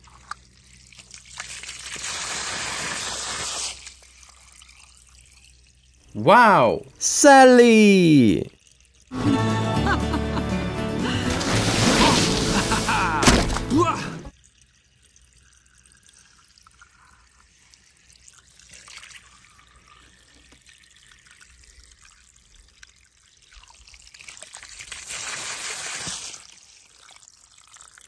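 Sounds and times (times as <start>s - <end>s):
water pouring and splashing: 0.0s - 6.0s, 11.1s - 28.0s.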